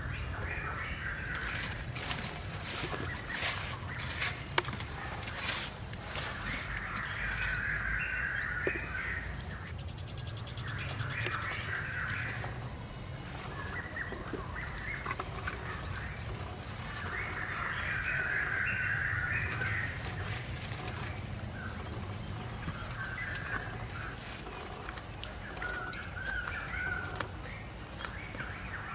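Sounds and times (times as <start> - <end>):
stick scraping dry soil: 0.0 - 9.8, 10.6 - 28.9
harsh bird calls: 0.0 - 28.9.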